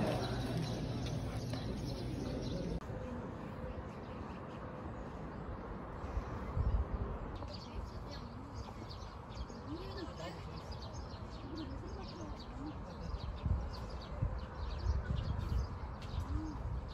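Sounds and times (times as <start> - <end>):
birds chirping: 0.0 - 16.9
outdoor background noise: 0.0 - 16.9.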